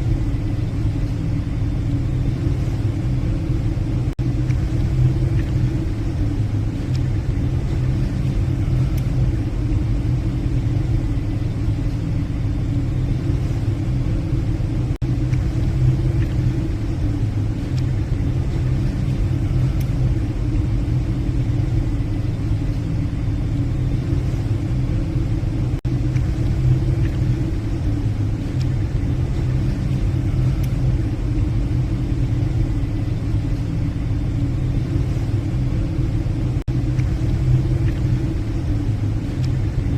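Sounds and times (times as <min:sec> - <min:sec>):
ship engines droning: 0:00.0 - 0:39.9.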